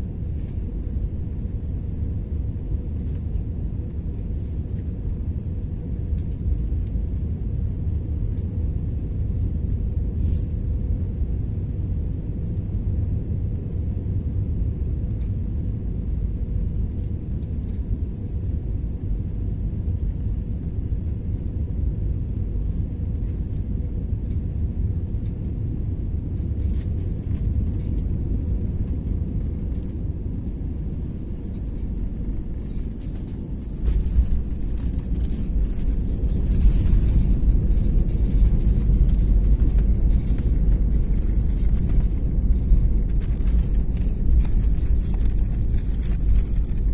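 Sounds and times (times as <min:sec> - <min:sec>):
engine and airflow rumble in cabin: 0:00.0 - 0:46.9
faint steady hum: 0:00.0 - 0:46.9.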